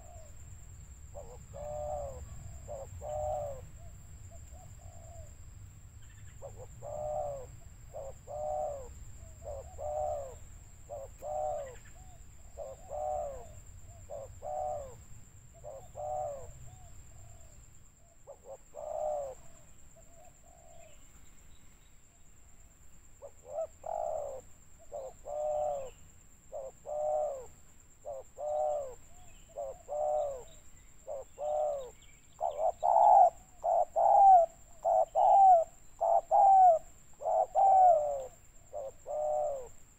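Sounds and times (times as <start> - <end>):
dove cooing: 0.0 - 0.4, 1.1 - 5.4, 6.0 - 17.6, 18.3 - 21.0, 23.2 - 39.8.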